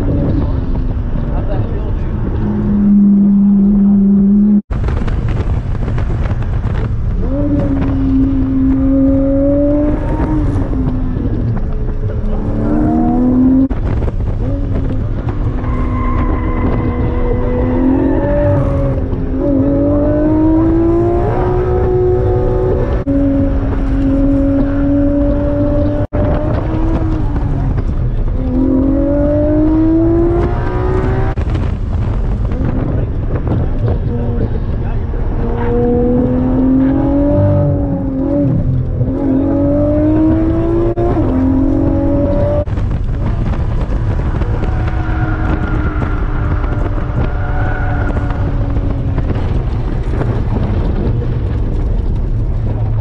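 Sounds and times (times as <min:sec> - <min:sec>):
car engine revving: 0:00.0 - 0:53.0
tyre and road rumble: 0:00.0 - 0:53.0.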